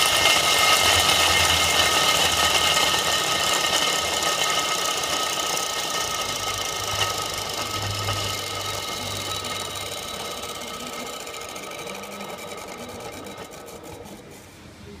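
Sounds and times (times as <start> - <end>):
diesel engine running: 0.0 - 14.4.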